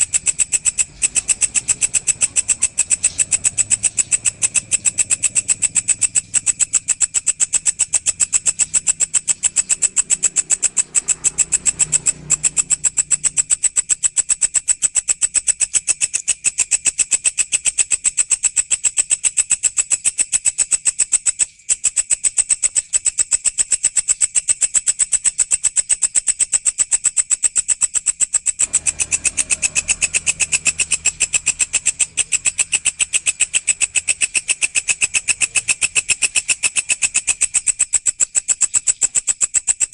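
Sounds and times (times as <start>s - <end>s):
katydid calling: 0.0s - 39.9s.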